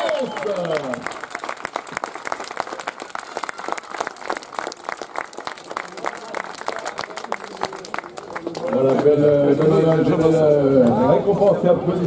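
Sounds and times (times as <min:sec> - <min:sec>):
crowd applauding: 0:00.0 - 0:10.3.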